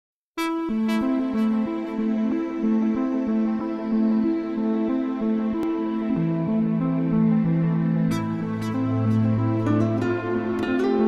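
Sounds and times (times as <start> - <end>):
keyboard melody: 0.4 - 11.0.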